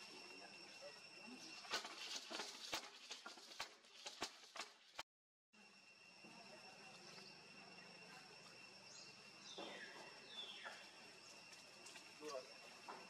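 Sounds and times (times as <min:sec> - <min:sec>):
steady high whine: 0:00.0 - 0:04.5, 0:05.6 - 0:13.0.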